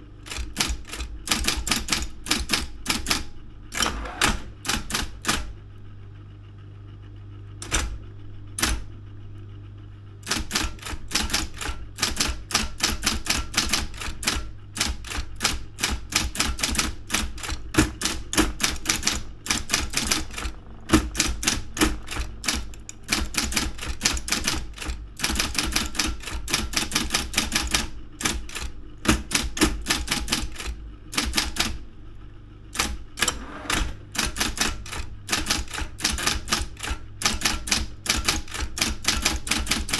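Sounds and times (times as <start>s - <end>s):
typewriter motor hum: 0.0s - 39.9s
typewriter keystrokes: 0.2s - 5.6s, 7.6s - 8.0s, 8.6s - 8.9s, 10.2s - 31.8s, 32.7s - 39.9s.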